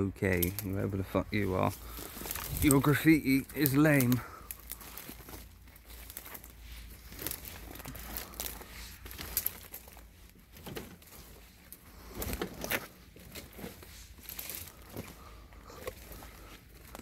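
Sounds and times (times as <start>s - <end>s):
dry brambles rustling and crackling: 0.0s - 17.0s
footsteps crunching through weeds: 0.4s - 17.0s.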